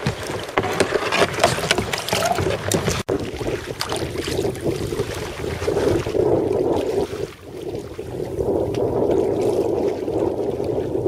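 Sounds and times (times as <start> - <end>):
water splashing against kayak hull: 0.0 - 11.0
wind buffeting microphone: 1.7 - 11.0.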